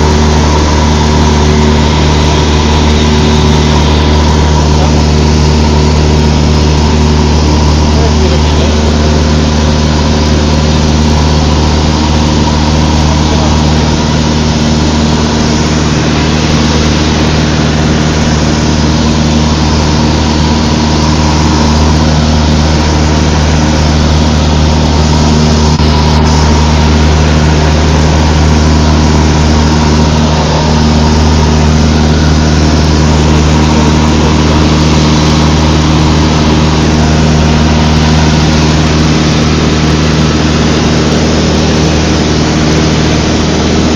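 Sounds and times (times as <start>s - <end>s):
airplane engine drone: 0.0s - 43.9s.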